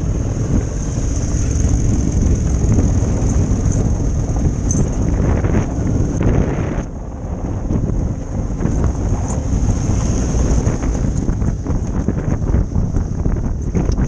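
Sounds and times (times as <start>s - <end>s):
motorcycle engine: 0.0s - 14.0s
wind buffeting microphone: 0.0s - 14.0s.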